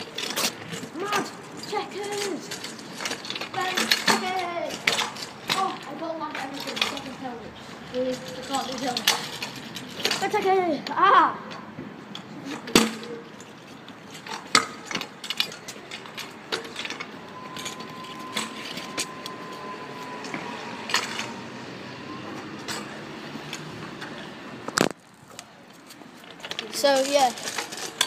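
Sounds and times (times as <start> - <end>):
scooter clattering on concrete: 0.0 - 28.0.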